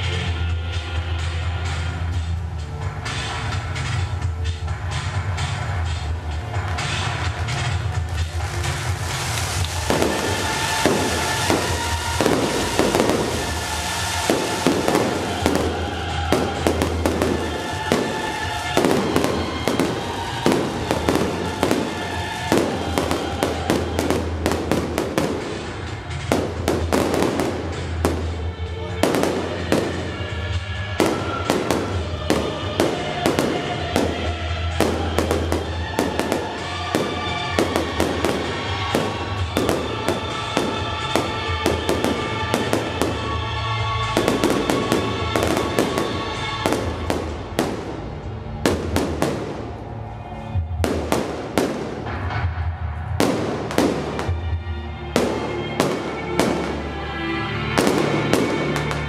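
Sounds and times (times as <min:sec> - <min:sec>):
background music: 0:00.0 - 0:59.0
fireworks bangs and crackles: 0:00.0 - 0:59.0.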